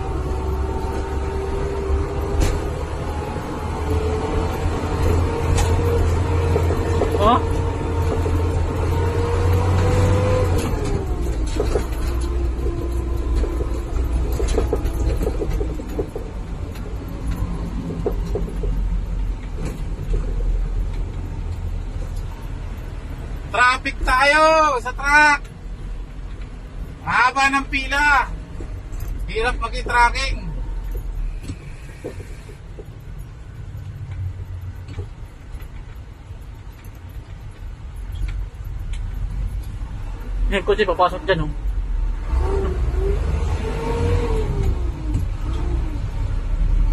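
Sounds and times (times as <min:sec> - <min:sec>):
truck engine rumble: 0:00.0 - 0:46.9.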